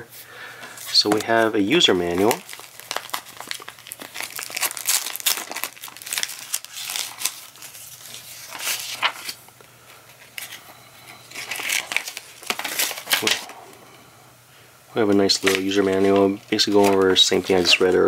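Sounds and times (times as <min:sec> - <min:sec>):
paper pages rustling: 0:00.6 - 0:10.6, 0:11.2 - 0:13.5, 0:15.1 - 0:18.0
plastic bag crinkling: 0:00.6 - 0:10.6, 0:11.2 - 0:13.6, 0:15.2 - 0:18.0.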